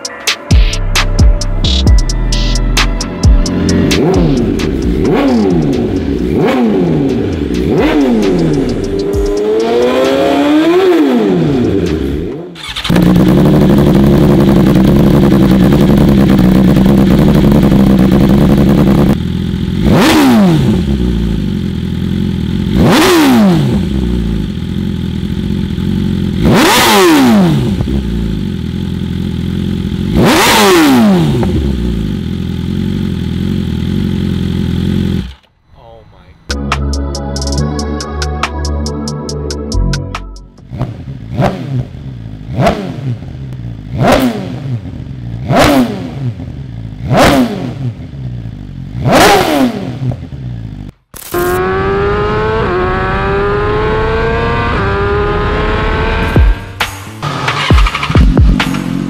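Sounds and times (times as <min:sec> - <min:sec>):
motorcycle engine revving: 0:01.0 - 0:35.6, 0:40.6 - 0:59.0.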